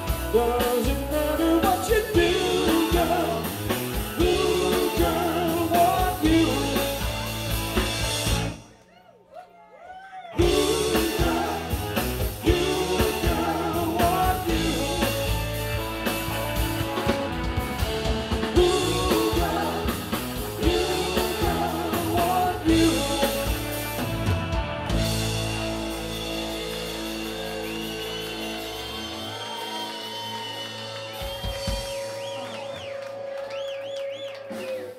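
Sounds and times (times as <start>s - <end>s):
rock band playing: 0.0s - 8.8s, 10.4s - 34.9s.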